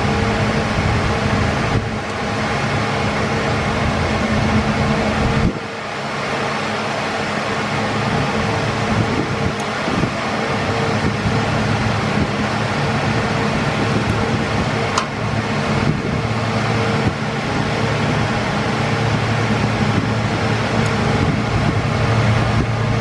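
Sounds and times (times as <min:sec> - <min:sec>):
cooling fans whirring: 0:00.0 - 0:23.0
low hum: 0:00.0 - 0:23.0.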